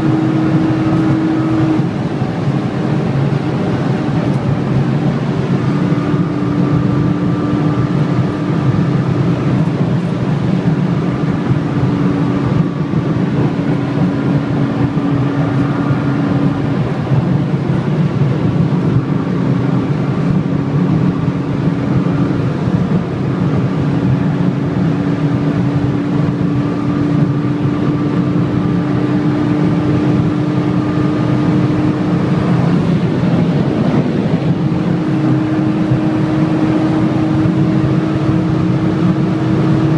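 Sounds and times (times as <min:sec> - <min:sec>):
road and wind noise: 0:00.0 - 0:39.9
vehicle engine droning: 0:00.0 - 0:39.9.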